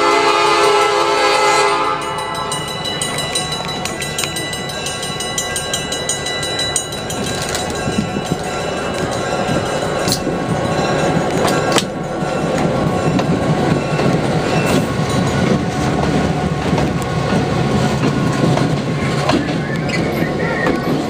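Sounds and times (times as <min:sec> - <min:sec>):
diesel locomotive passing: 0:00.0 - 0:21.0
wheels clicking over rail joints: 0:02.6 - 0:21.0.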